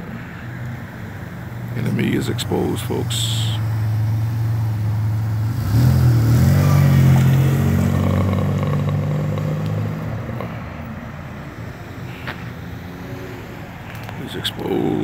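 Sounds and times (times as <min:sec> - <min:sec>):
vehicle engine driving off: 0:01.5 - 0:15.0.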